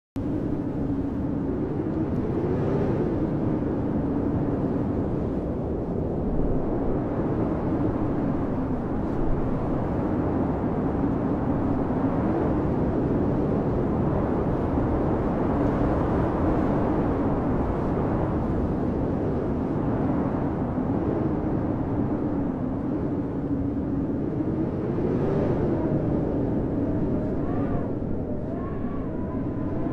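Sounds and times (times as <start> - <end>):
howling blizzard wind: 0.2 - 29.9.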